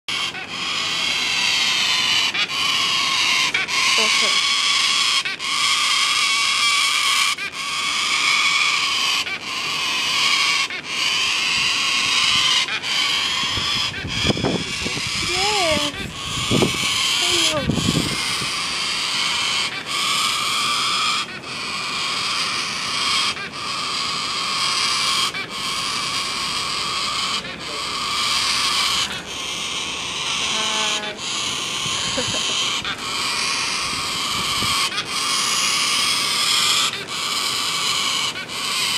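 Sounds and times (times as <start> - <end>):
cockatoos screeching: 0.1 - 38.9.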